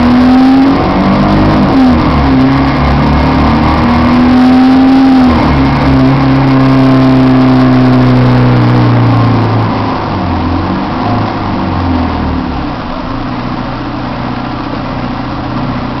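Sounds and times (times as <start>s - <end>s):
bus engine humming drone: 0.0s - 16.0s
bus running noise: 0.0s - 16.0s.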